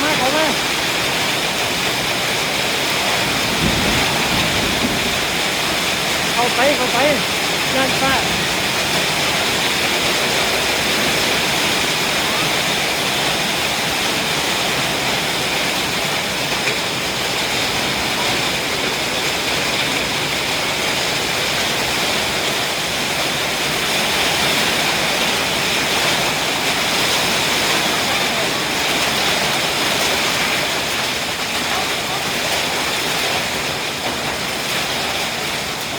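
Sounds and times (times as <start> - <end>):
heavy rain and hail: 0.0 - 35.9.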